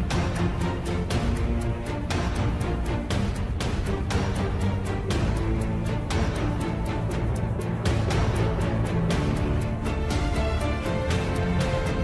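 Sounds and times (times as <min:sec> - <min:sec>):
background music with percussive beat: 0:00.0 - 0:12.0.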